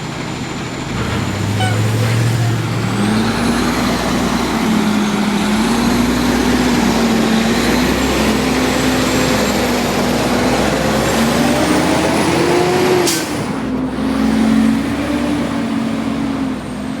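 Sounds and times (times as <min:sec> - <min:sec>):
garbage truck engine revving: 0:00.0 - 0:17.0.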